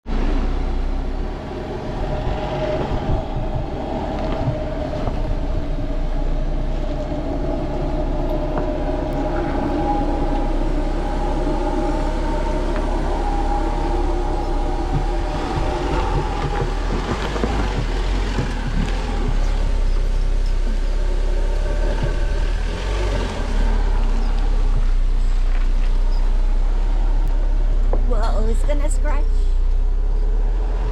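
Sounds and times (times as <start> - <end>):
engine low rumble: 0.0 - 30.9.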